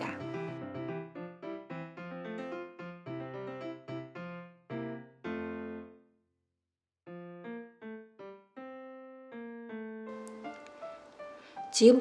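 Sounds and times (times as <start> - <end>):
piano music: 0.0 - 6.1, 7.1 - 12.0.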